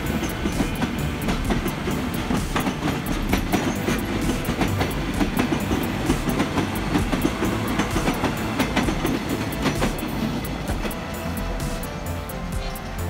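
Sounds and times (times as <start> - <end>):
train rolling rumble: 0.0 - 13.0
train wheels clacking over rail joints: 0.0 - 13.0.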